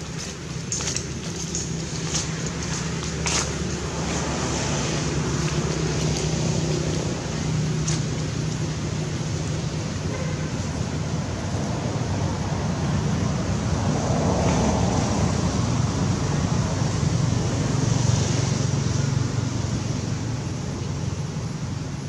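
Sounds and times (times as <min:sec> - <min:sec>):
road traffic rumble and hiss: 0:00.0 - 0:22.0
vehicles passing: 0:00.0 - 0:22.0.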